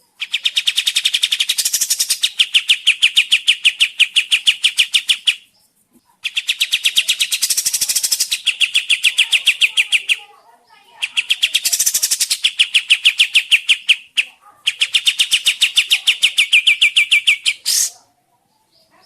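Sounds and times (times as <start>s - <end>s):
songbird rattling trill: 0.2s - 18.0s.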